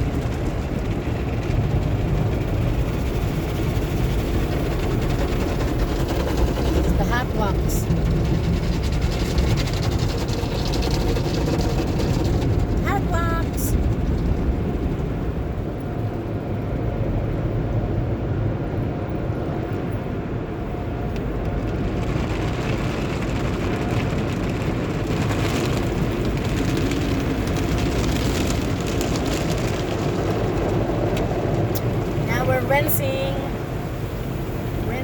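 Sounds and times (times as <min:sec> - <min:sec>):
water spraying on car: 0:00.0 - 0:16.5, 0:20.5 - 0:35.0
car wash machinery rumble: 0:00.0 - 0:35.0.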